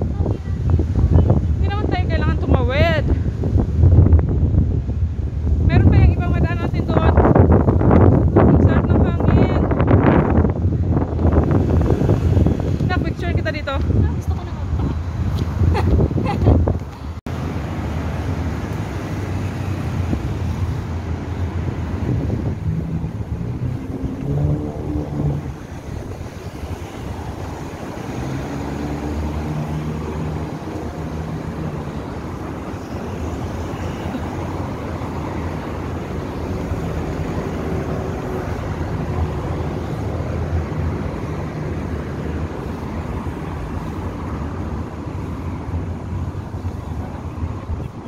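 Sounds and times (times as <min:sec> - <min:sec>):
cars passing: 0:00.0 - 0:48.0.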